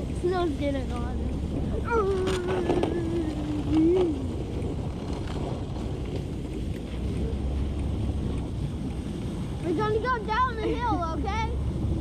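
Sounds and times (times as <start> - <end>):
sled rumbling over snow: 0.0 - 12.0
wind noise: 0.0 - 12.0.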